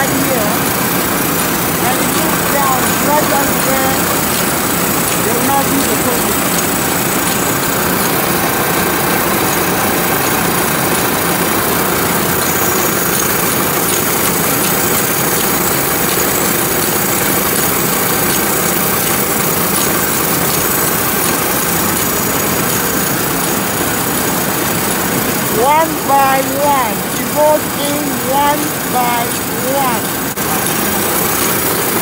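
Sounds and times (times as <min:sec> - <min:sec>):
machinery running steadily: 0:00.0 - 0:32.0.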